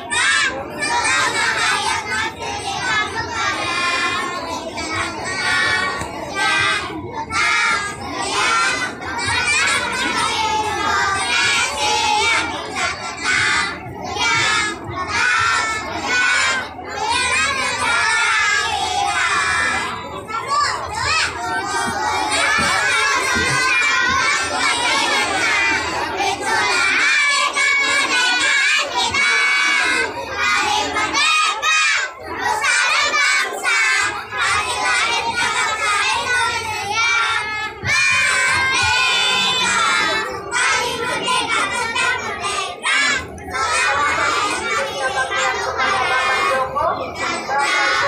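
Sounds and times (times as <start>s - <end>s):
children's choir singing: 0.0s - 48.0s.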